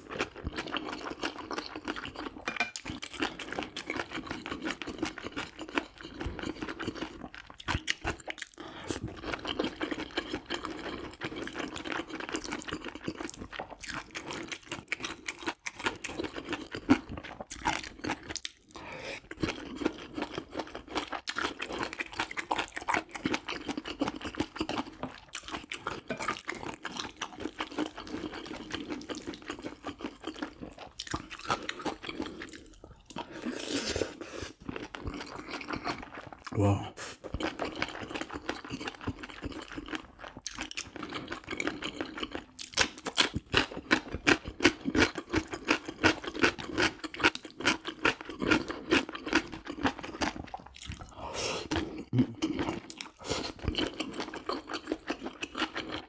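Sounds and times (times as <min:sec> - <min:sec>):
wet chewing with crunches: 0:00.0 - 0:33.8, 0:37.2 - 0:56.0.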